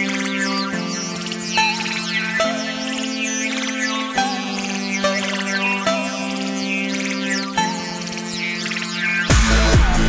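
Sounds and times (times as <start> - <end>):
synthesizer chords: 0.0 - 10.0.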